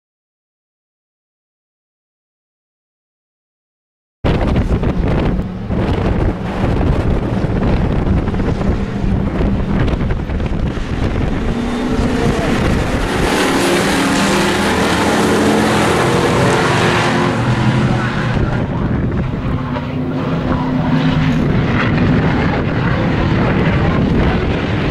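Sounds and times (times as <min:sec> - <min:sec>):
wind noise on microphone: 0:04.2 - 0:24.9
race truck engines: 0:04.3 - 0:24.9.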